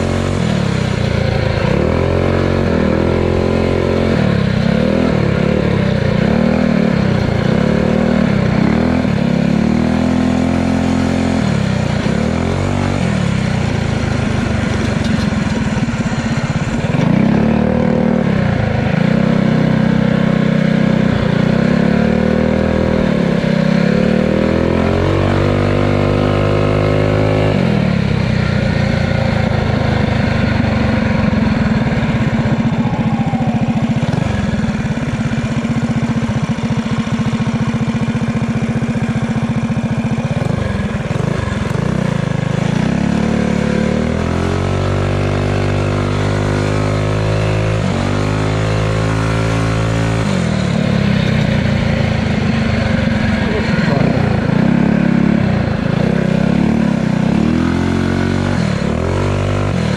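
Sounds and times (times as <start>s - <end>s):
motorbike engine accelerating: 0.0s - 59.9s.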